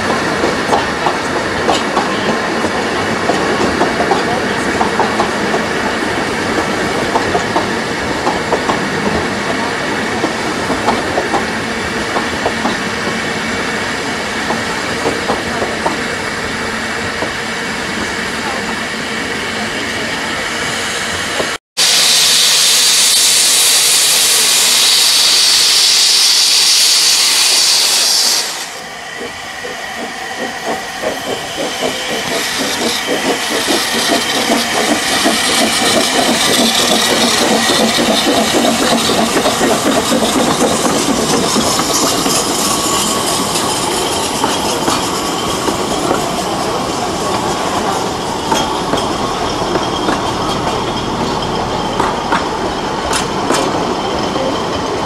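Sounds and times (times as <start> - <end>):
train carriages clattering past: 0.0 - 20.5, 28.7 - 55.0
steam locomotive hissing steam: 0.0 - 55.0.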